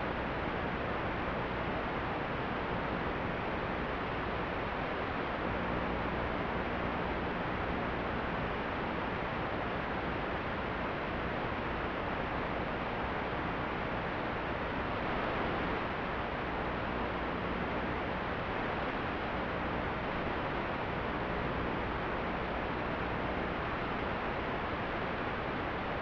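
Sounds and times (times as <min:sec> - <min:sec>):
static hiss: 0:00.0 - 0:26.0.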